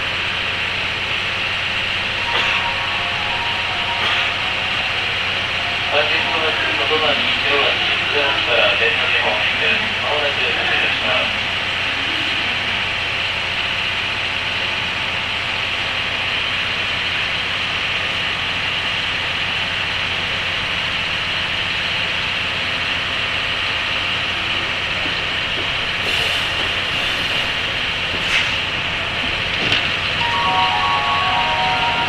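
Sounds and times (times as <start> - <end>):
train wheels rushing over low hum: 0.0 - 30.4.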